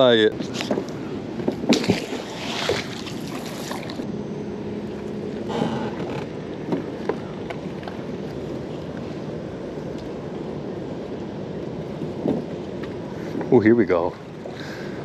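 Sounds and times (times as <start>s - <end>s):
river water: 0.0s - 15.0s
wind: 0.0s - 15.0s.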